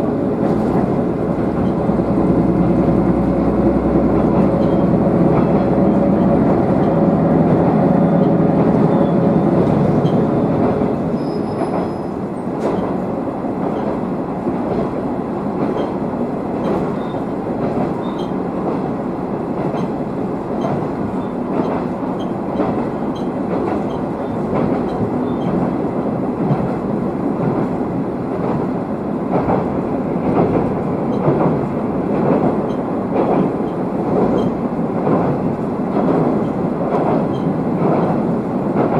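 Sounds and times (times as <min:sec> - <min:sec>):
wheels rumbling on rails: 0:00.0 - 0:38.9
rail-joint clicks: 0:00.3 - 0:38.9.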